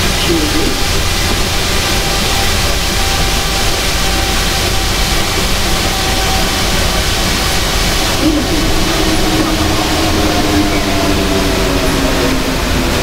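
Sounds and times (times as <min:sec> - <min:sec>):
faint steady whine: 0:00.0 - 0:13.0
train rumbling through tunnel: 0:00.0 - 0:13.0.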